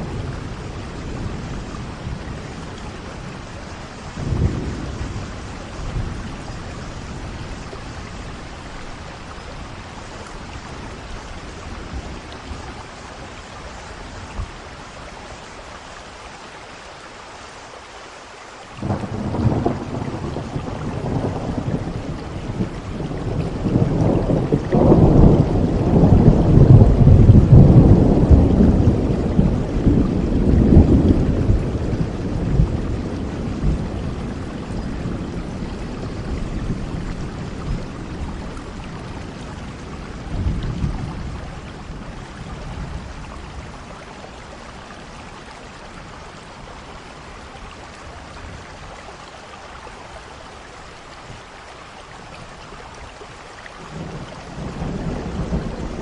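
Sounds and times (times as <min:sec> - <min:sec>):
rolling thunder rumble: 0:00.0 - 0:13.5, 0:18.8 - 0:49.0, 0:53.8 - 0:56.0
steady rain: 0:00.0 - 0:56.0.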